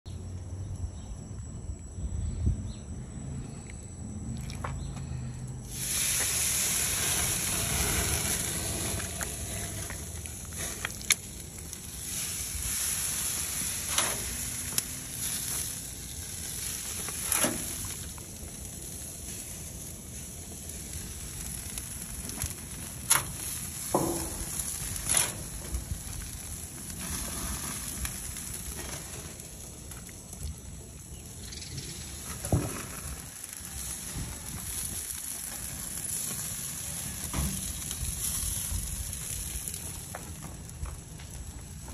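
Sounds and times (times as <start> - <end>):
barbecue grill sizzling: 4.5 - 41.9.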